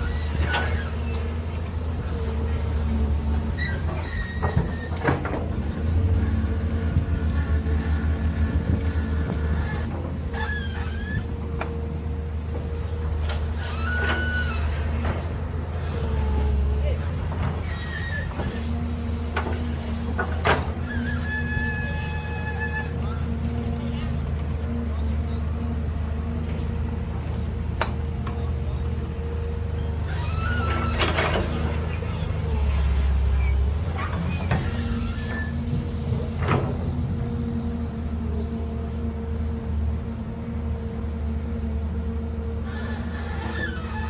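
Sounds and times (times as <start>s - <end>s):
diesel machinery engine running: 0.0s - 44.0s.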